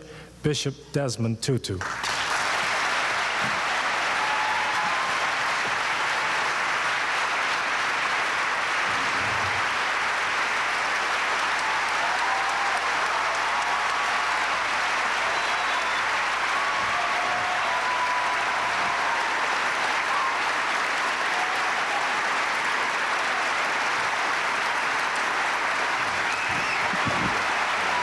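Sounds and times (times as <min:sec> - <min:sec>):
audience applauding: 0:01.8 - 0:28.0.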